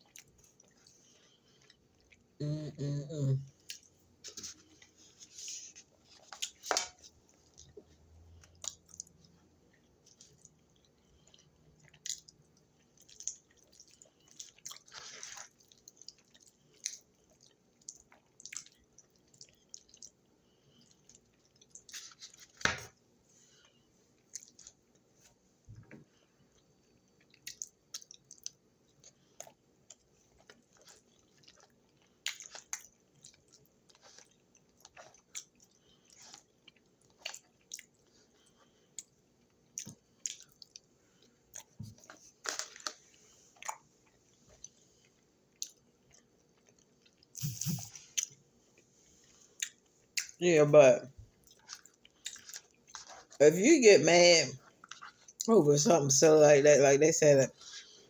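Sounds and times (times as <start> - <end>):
person chewing food: 0.0 - 2.4, 3.5 - 50.4, 51.2 - 53.4, 54.6 - 55.5.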